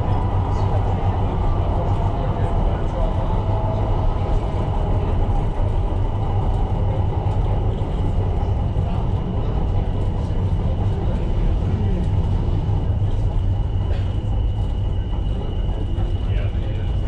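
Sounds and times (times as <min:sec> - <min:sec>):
train wheels and motors rumbling: 0:00.0 - 0:17.0.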